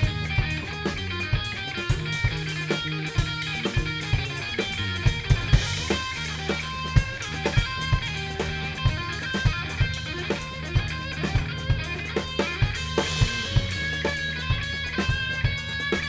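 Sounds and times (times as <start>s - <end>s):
drum kit steady beat: 0.0s - 16.0s
electric guitar: 0.0s - 16.0s
sustained bass notes: 0.0s - 16.0s.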